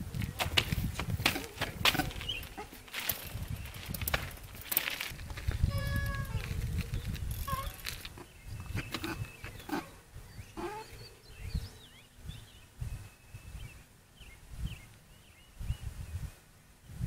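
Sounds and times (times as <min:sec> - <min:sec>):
small birds chirping: 0:00.1 - 0:05.0, 0:05.6 - 0:17.0.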